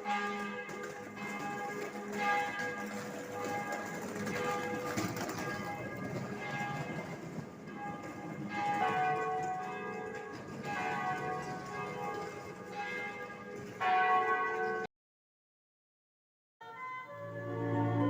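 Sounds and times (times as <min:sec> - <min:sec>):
church bells ringing: 0:00.0 - 0:14.9.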